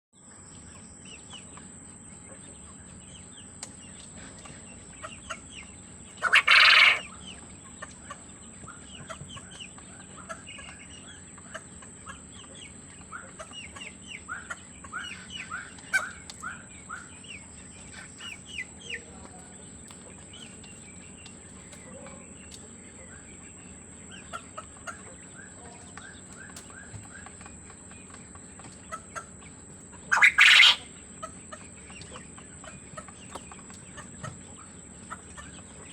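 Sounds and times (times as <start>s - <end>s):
quail chirping and clucking: 0.3s - 35.9s.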